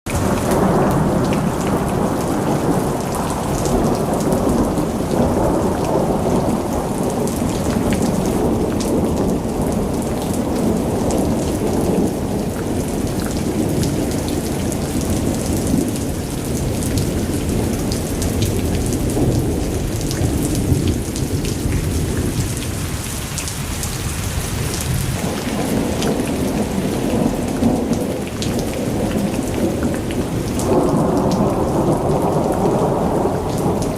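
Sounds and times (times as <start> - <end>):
heavy rain pelting a car: 0.1 - 33.9
low rumble of thunder: 0.2 - 33.9.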